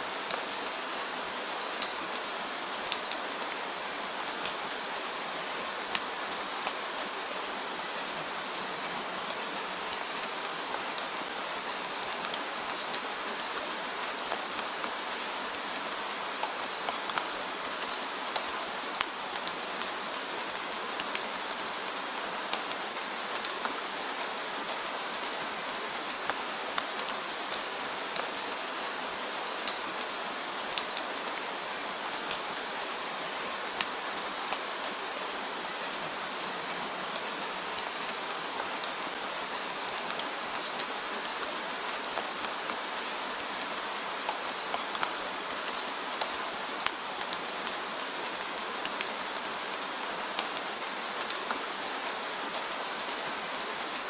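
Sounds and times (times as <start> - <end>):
steady rain hiss: 0.0 - 54.0
raindrops ticking on a surface: 0.1 - 54.0.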